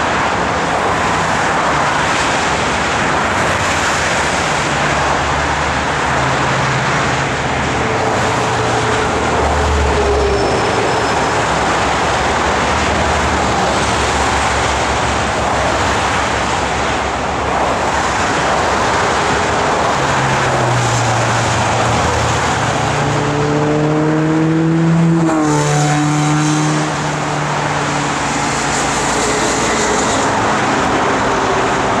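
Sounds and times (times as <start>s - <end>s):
freeway traffic rushing: 0.0s - 32.0s.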